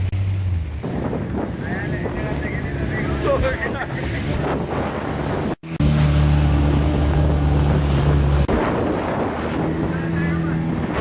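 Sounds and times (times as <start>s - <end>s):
boat motor running: 0.0s - 11.0s
water rushing: 0.8s - 11.0s
wind buffeting microphone: 0.8s - 11.0s.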